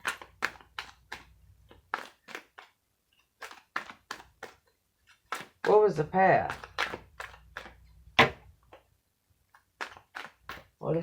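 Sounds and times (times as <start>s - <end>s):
cards clicking and tapping: 0.0s - 8.8s, 9.5s - 10.8s.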